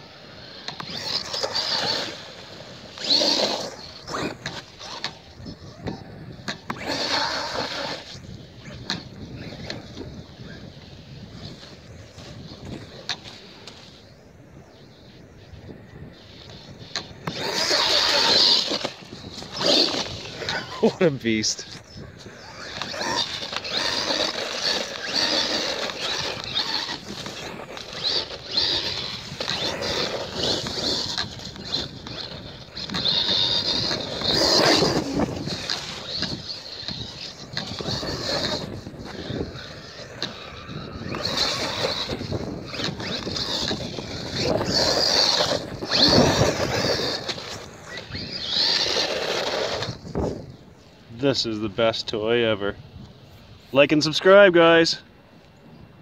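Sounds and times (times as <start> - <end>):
tyres on gravel: 0.0 - 14.8, 15.9 - 55.6
rc truck motor whine: 0.0 - 51.1.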